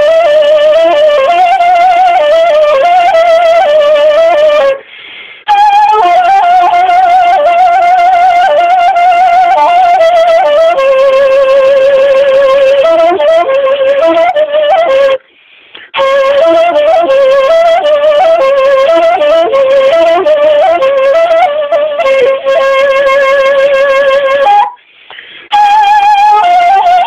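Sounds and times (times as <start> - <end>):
solo wind instrument folk melody: 0.0 - 27.0.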